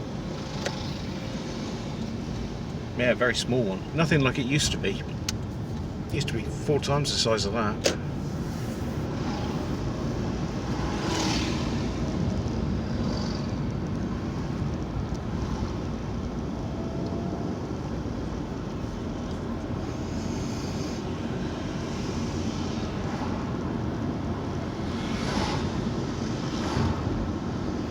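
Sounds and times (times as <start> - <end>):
car engine and tyre drone: 0.0 - 27.9.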